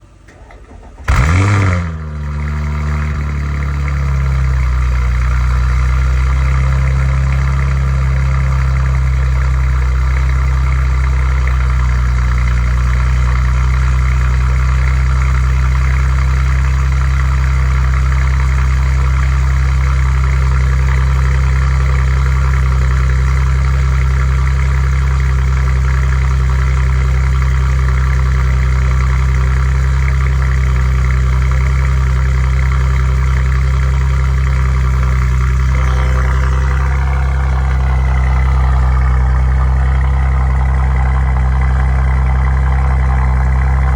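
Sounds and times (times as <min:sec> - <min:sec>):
car engine starting and idling: 0:00.0 - 0:43.9.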